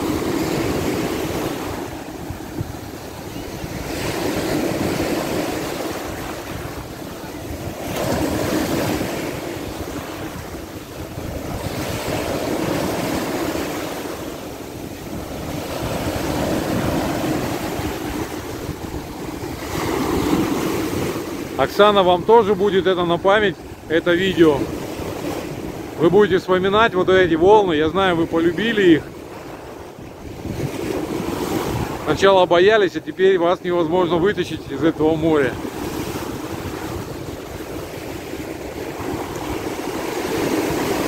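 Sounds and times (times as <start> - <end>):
wind rumbling on microphone: 0.0 - 22.4, 23.5 - 32.2, 35.4 - 41.0
waves breaking on shore: 0.0 - 41.0.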